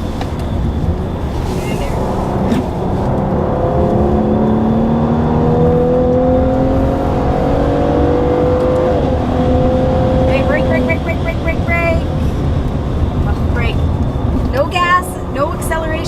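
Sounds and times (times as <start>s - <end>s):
car engine accelerating from inside: 0.0s - 16.0s.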